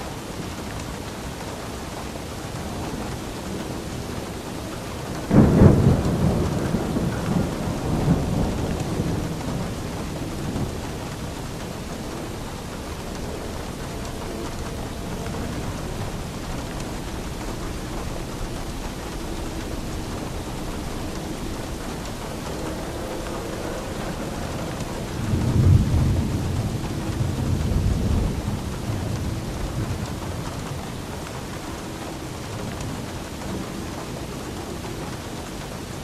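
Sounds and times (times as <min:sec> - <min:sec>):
steady rain falling: 0:00.0 - 0:36.0
thunderclap rumbling: 0:00.1 - 0:36.0.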